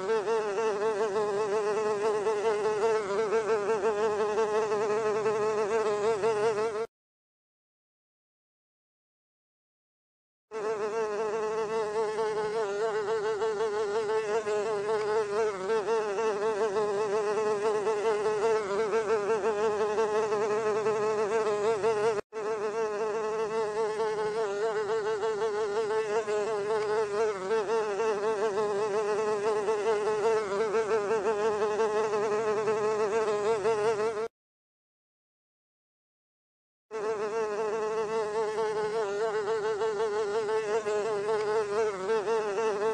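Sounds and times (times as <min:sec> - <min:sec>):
housefly buzzing: 0:00.0 - 0:06.9, 0:10.5 - 0:34.4, 0:36.9 - 0:42.9.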